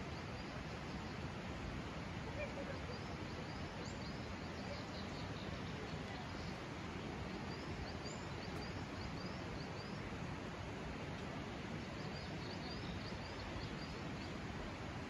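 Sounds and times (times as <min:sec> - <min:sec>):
steady outdoor hiss: 0:00.0 - 0:15.0
small birds chirping: 0:02.2 - 0:10.4, 0:11.1 - 0:15.0.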